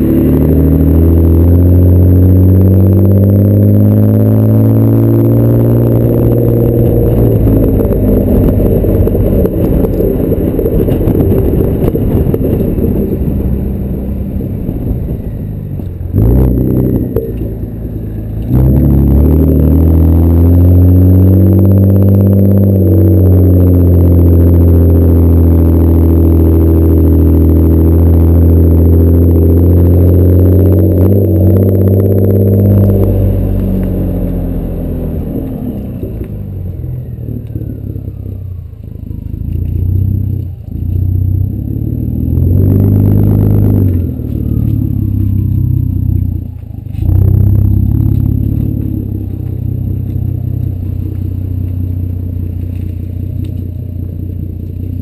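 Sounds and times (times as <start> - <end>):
car exhaust drone: 0.0 - 55.0.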